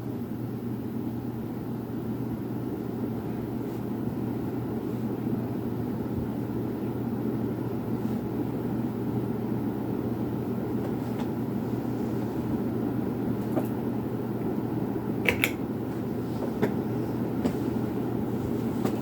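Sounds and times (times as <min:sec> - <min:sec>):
ceiling fan whooshing: 0:00.0 - 0:19.0.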